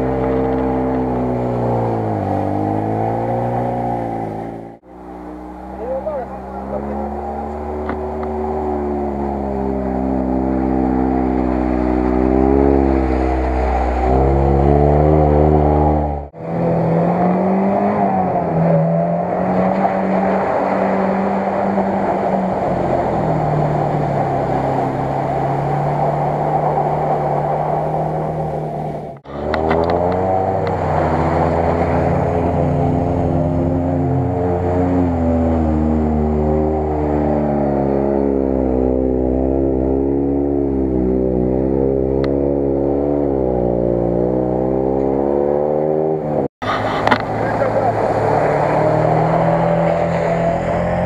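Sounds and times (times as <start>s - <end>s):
off-road vehicle engine revving: 0.0s - 51.0s.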